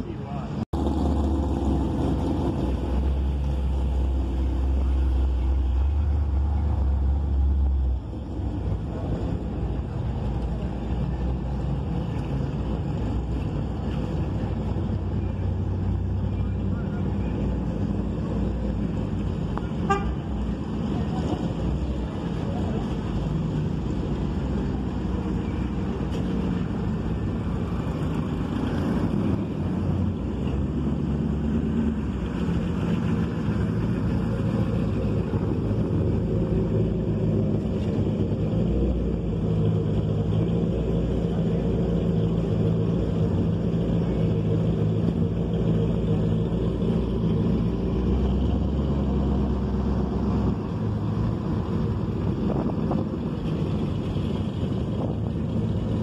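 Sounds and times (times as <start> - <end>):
car engines driving past: 0.0 - 56.0.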